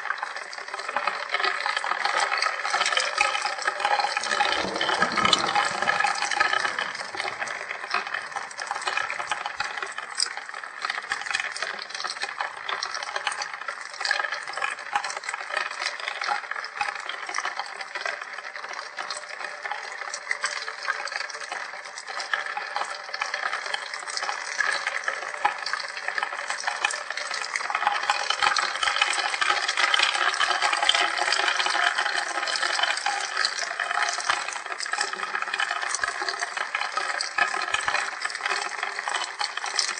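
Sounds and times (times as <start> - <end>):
steady rain with splashing drops: 0.1 - 39.9.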